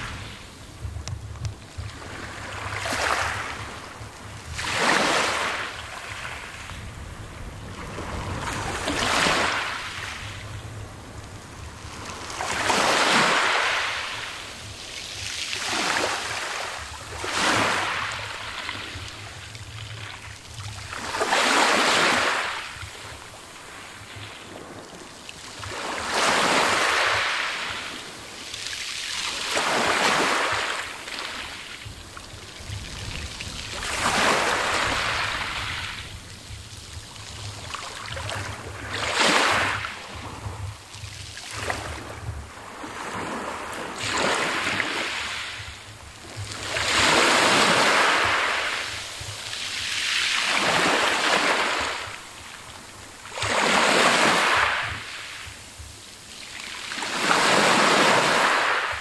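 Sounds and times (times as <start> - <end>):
waves washing up pebble beach: 1.7 - 10.6, 11.2 - 55.7, 56.4 - 59.0.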